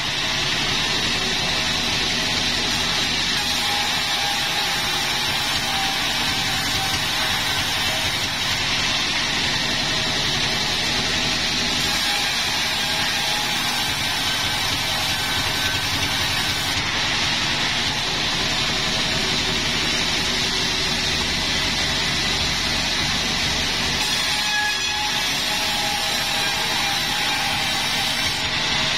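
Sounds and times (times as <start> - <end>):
sawmill machinery drone: 0.0 - 28.9.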